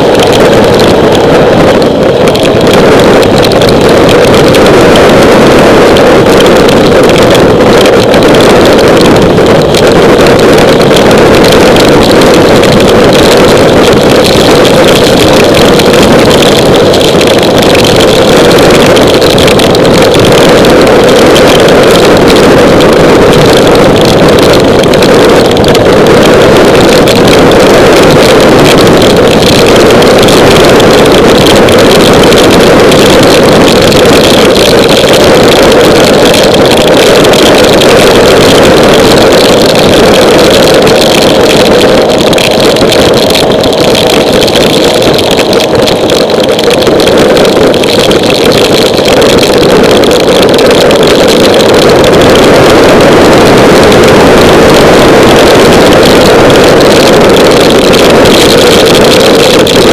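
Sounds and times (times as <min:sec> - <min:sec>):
motorcycle engine drone: 0:00.0 - 0:59.9
wind and rain rushing: 0:00.0 - 0:59.9.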